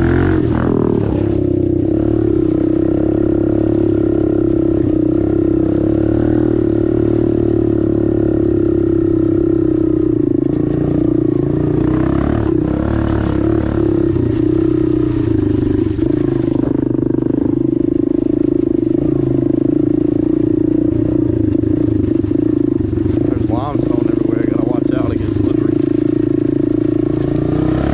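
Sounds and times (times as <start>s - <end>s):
dirt bike engine running: 0.0s - 27.9s.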